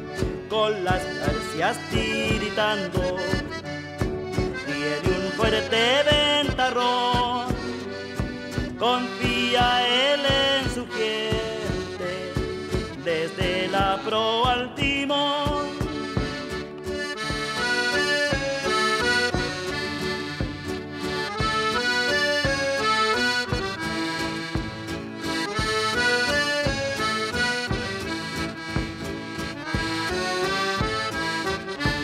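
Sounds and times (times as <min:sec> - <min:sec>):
accordion melody: 0:00.0 - 0:32.0
steady beat: 0:00.0 - 0:32.0.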